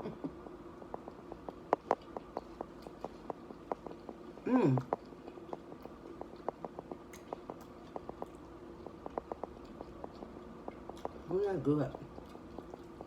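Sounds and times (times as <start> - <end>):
faint steady hum: 0.0 - 13.0
chewing crunchy chips: 0.4 - 13.0.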